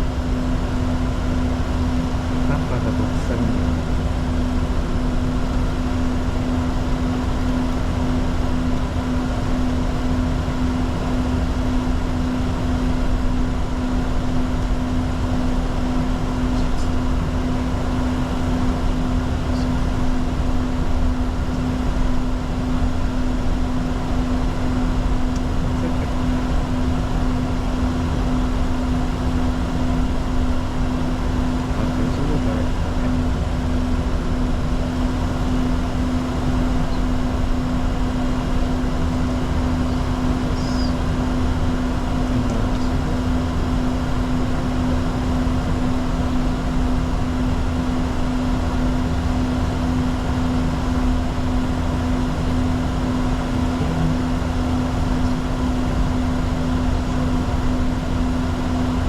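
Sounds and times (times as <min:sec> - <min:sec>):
constant low hum: 0:00.0 - 0:59.0
jet cockpit engine and airflow noise: 0:00.0 - 0:59.0.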